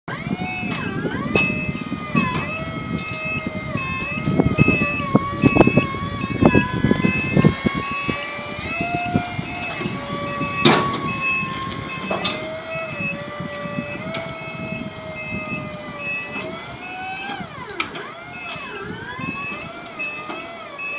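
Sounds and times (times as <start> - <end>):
electric drive motor whining: 0.1 - 20.9
motion alarm beeping: 0.4 - 17.2, 18.3 - 20.9.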